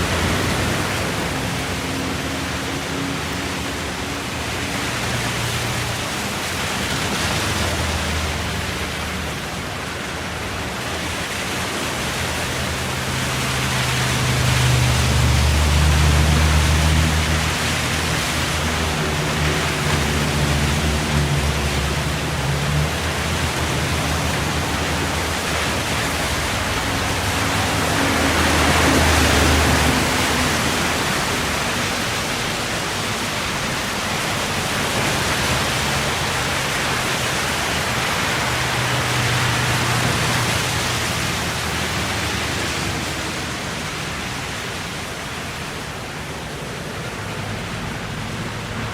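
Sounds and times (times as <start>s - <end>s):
low engine hum: 0.0s - 48.9s.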